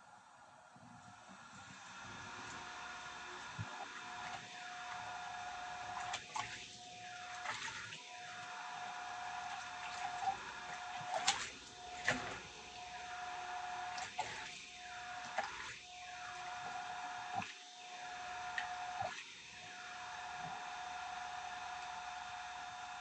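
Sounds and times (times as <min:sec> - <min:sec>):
small electric motor humming: 0:00.9 - 0:23.0.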